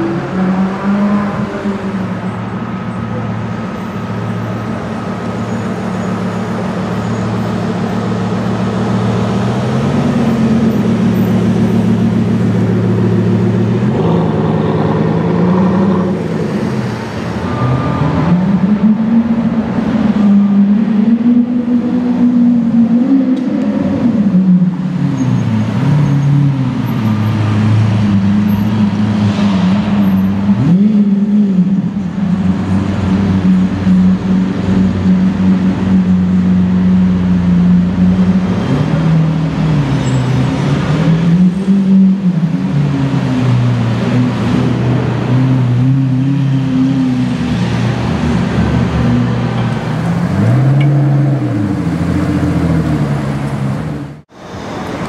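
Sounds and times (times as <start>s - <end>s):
car engine revving: 5.1s - 54.3s.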